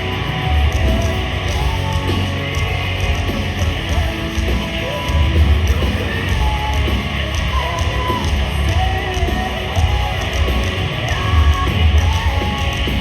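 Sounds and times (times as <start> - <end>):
bending lead guitar melody: 0.0 - 13.0
heavy rock band playing: 0.0 - 13.0.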